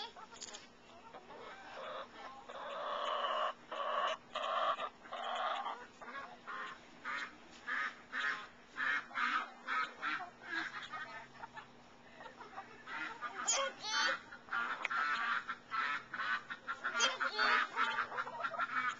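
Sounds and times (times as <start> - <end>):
hens calling: 0.0 - 18.9.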